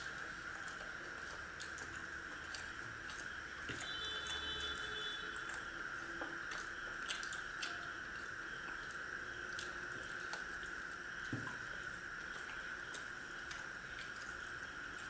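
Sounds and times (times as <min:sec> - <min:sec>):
people chewing: 0:00.0 - 0:15.0
steady high hum: 0:00.0 - 0:15.0.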